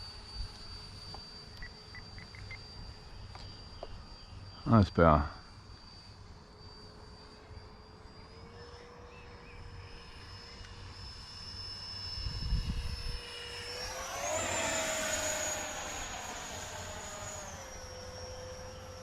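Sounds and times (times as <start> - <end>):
electric ducted fan whining: 0.0 - 19.0.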